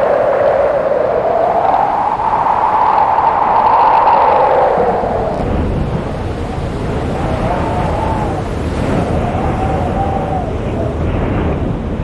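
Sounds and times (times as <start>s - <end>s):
deep rumble: 0.0s - 12.0s
wind howling: 0.0s - 12.0s.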